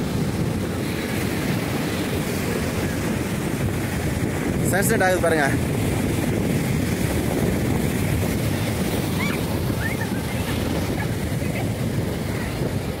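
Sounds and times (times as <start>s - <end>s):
surf washing on shore: 0.0s - 13.0s
wind on microphone: 0.0s - 13.0s.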